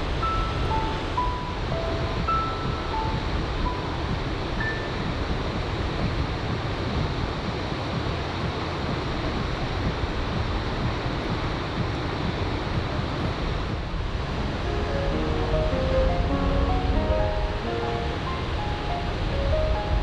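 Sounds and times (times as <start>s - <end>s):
ocean surf breaking: 0.0s - 20.0s
wind buffeting microphone: 0.0s - 20.0s.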